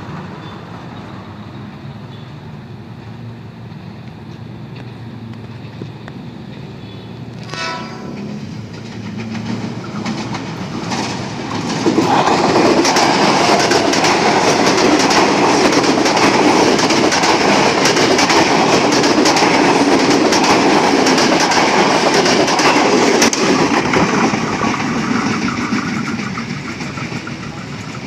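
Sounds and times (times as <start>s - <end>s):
electric train passing: 0.0s - 28.0s
train wheels clattering on rails: 3.0s - 28.0s.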